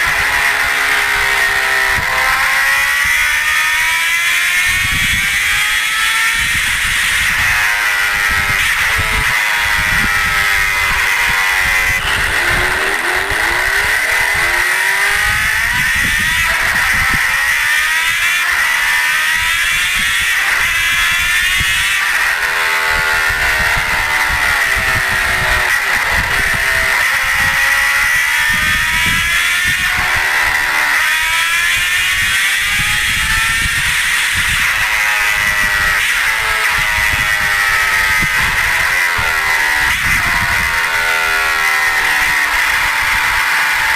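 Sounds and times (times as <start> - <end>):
motorcycle engine running: 0.0 - 43.9
wind rumbling on microphone: 4.5 - 18.2, 19.3 - 41.0.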